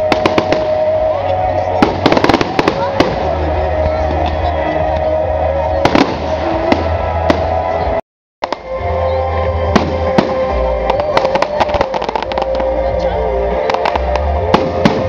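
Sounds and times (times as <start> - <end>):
fireworks bangs and crackles: 0.0 - 8.8, 9.6 - 12.8, 13.6 - 15.0
loud music with held notes: 0.0 - 15.0.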